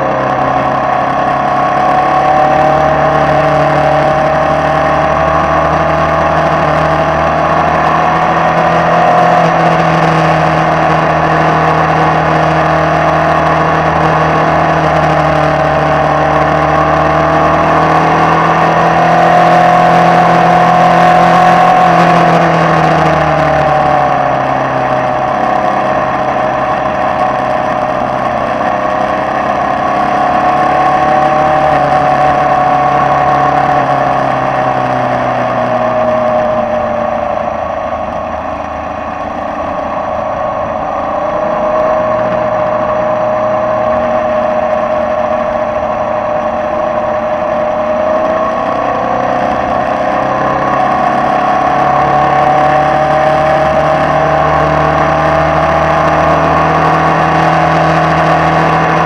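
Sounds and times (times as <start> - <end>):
race car engine at speed: 0.0 - 59.0.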